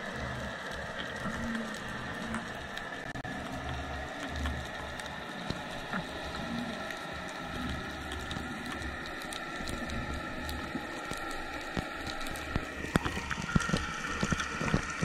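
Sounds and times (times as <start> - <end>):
faint steady hum: 0.0 - 15.0
faint clicks: 0.1 - 15.0.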